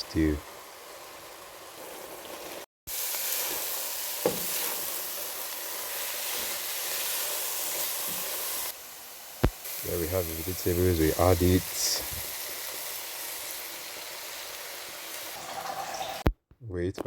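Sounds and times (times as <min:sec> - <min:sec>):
stew sizzling in oil: 0:00.0 - 0:16.2.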